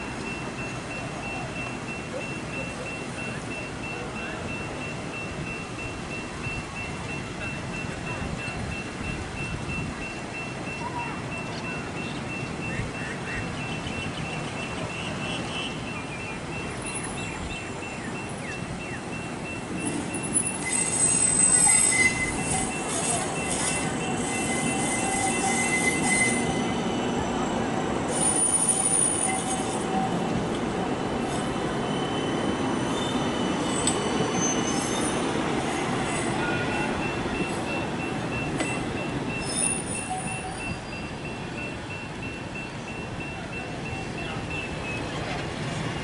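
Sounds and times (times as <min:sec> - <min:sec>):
tram running rumble: 0:00.0 - 0:46.0
tram wheels squealing: 0:00.0 - 0:46.0.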